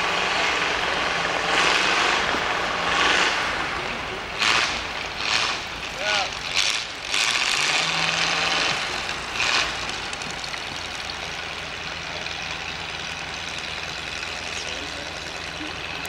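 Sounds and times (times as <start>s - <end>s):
steam engine running: 0.0s - 16.0s.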